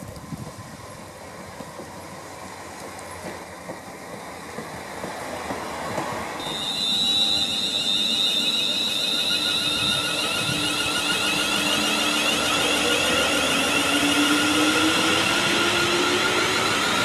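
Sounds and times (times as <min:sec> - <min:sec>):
train wheels rumbling on rails: 0:00.0 - 0:17.0
train high whine: 0:00.3 - 0:17.0.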